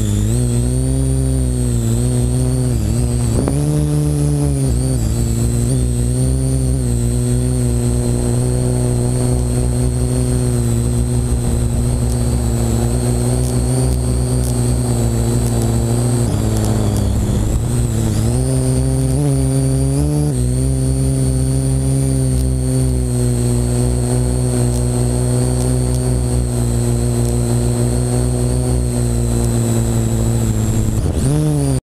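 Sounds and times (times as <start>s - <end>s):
drone propellers buzzing: 0.0s - 31.8s.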